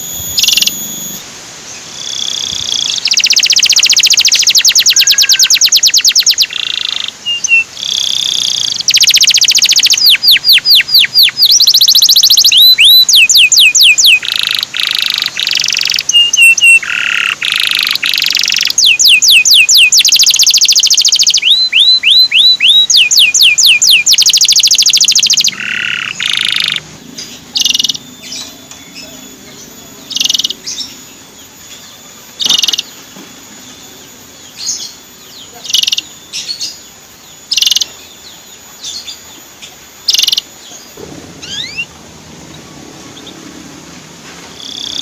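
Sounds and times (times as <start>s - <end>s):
canary singing trills: 0.0s - 43.8s, 44.5s - 45.0s.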